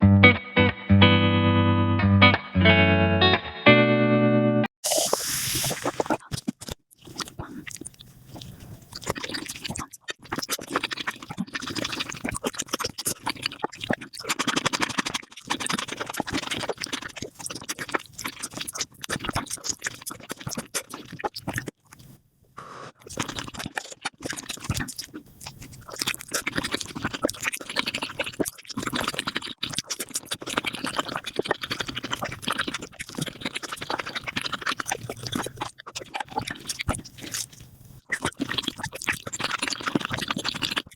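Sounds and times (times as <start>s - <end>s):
fast chewing crackle: 4.8s - 22.1s, 23.0s - 40.9s.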